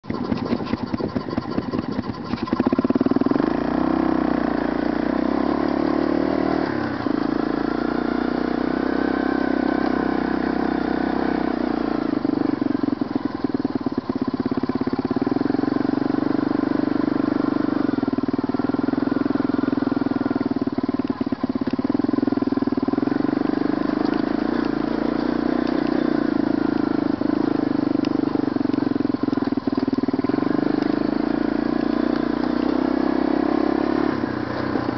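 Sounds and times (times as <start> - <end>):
quad bike engine revving: 0.0 - 34.9.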